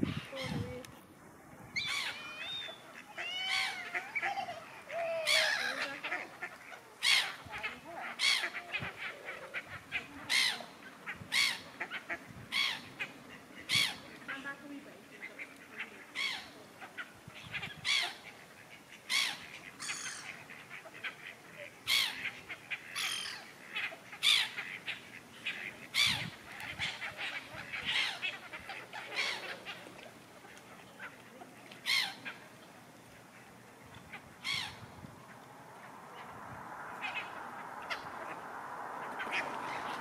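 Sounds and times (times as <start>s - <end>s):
birds calling: 1.7s - 40.0s.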